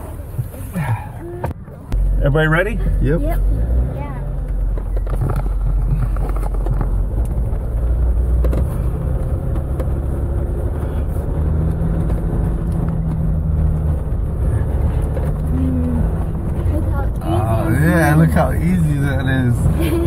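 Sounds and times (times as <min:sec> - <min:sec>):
engine pulling at low speed: 0:00.0 - 0:20.0.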